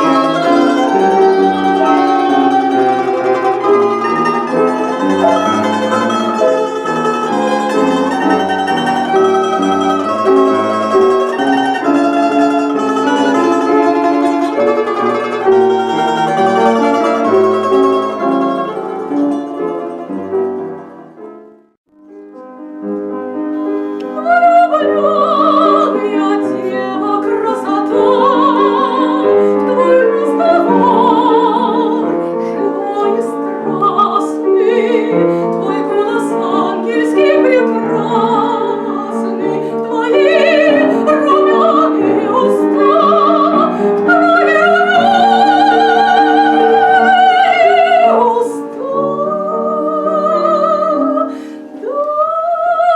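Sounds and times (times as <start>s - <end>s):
classical singing with vibrato: 0.0s - 20.9s, 23.6s - 52.9s
piano accompaniment: 0.0s - 52.9s.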